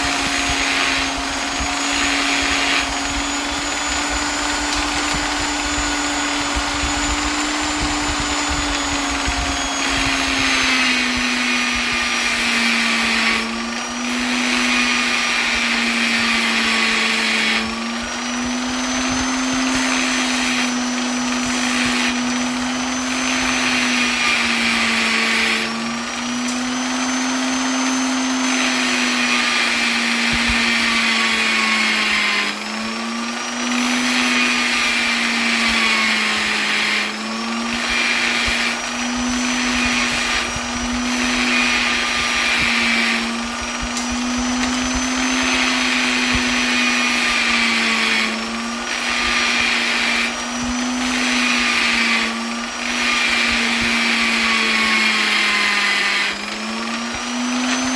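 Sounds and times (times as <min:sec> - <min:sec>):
electric polisher running: 0:00.0 - 0:57.9.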